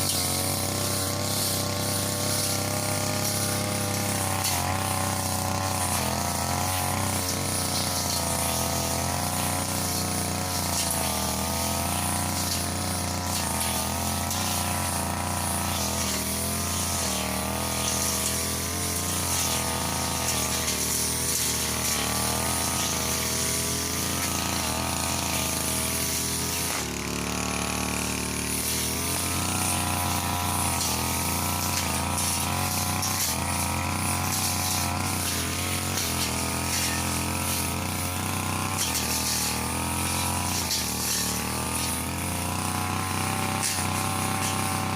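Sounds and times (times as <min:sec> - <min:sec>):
brush cutter engine cutting grass: 0:00.0 - 0:44.9.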